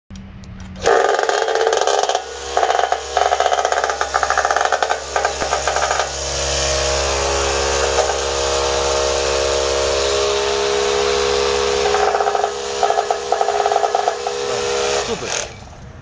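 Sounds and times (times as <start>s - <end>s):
vibrating concrete screed motor: 0.8s - 16.0s.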